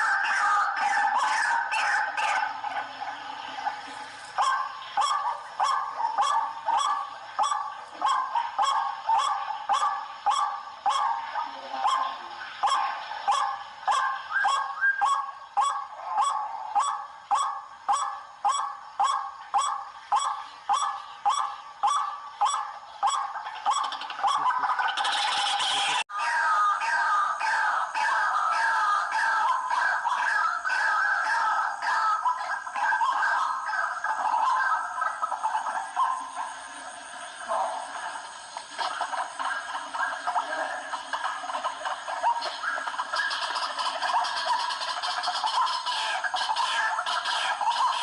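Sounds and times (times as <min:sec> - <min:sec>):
waterhen calling: 0:00.0 - 0:48.0.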